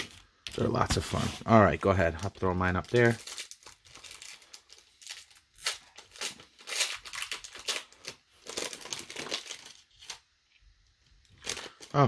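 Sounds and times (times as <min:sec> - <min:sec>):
card pack wrapper crinkling and tearing: 0:00.0 - 0:10.3, 0:11.2 - 0:12.0.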